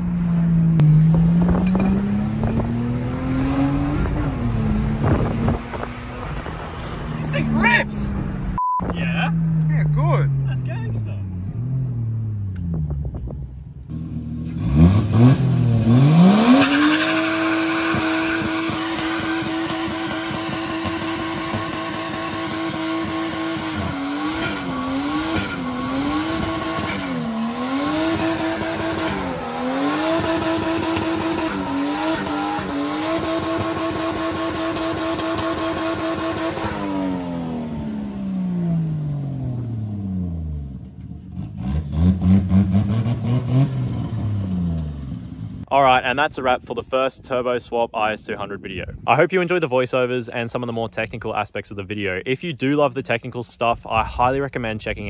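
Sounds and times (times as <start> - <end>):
car engine revving high: 0.0 - 13.2, 13.9 - 45.6.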